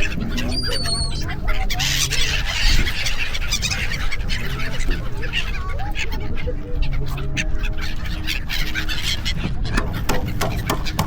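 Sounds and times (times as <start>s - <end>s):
gulls calling: 0.0s - 11.0s
noisy background: 0.0s - 11.0s.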